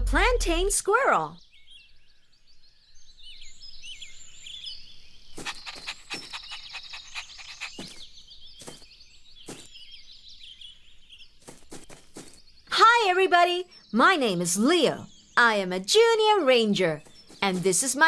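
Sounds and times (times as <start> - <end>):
small birds chirping and twittering: 0.2 - 18.0.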